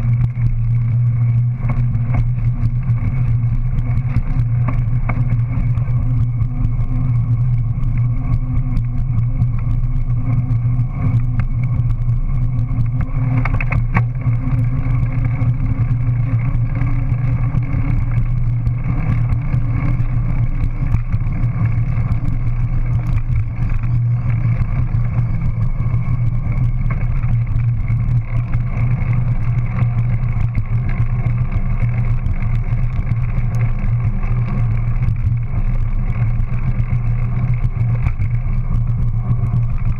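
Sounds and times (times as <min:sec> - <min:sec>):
bike frame vibration: 0:00.0 - 0:39.9
bike tyres rolling on concrete: 0:00.0 - 0:39.9
wind: 0:00.0 - 0:39.9.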